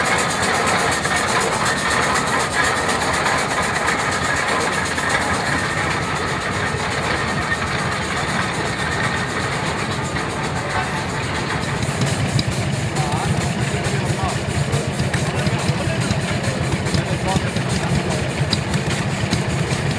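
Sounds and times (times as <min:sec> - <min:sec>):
steam road roller running: 0:00.0 - 0:19.9.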